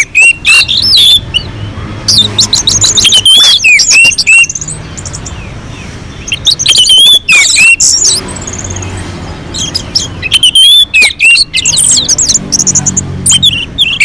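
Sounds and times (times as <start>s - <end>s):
thrush singing whistled phrases: 0.0s - 5.5s, 6.2s - 14.0s.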